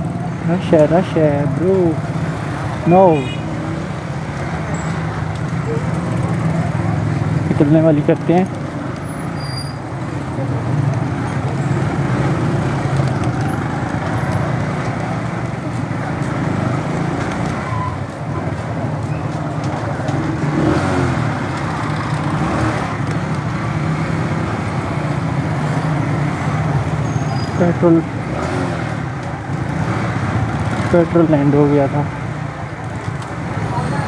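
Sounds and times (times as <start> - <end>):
street noise: 0.0 - 34.0.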